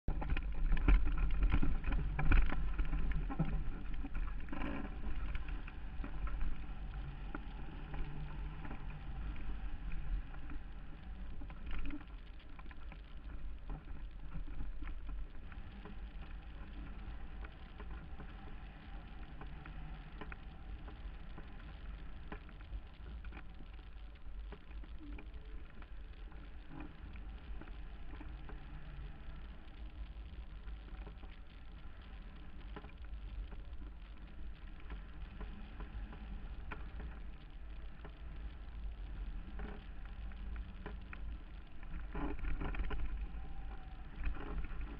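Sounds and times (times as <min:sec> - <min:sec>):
wind rushing over camera: 0:00.0 - 0:44.9.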